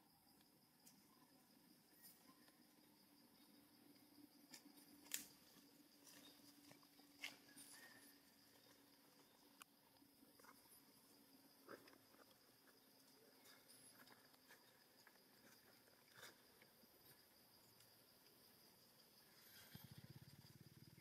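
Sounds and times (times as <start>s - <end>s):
faint forest ambience: 0.0s - 21.0s.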